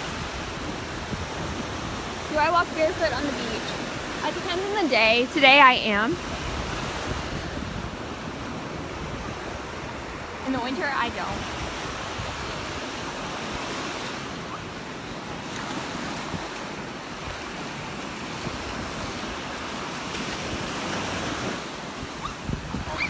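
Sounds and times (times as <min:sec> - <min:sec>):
surf washing onto sand beach: 0:00.0 - 0:23.0
wind buffeting microphone: 0:00.0 - 0:23.0.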